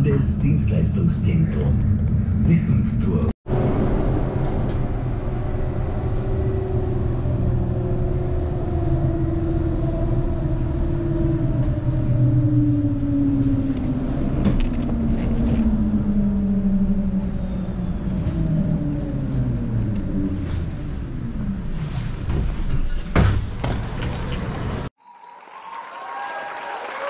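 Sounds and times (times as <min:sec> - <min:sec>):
wheels rumbling on rails: 0:00.0 - 0:24.9.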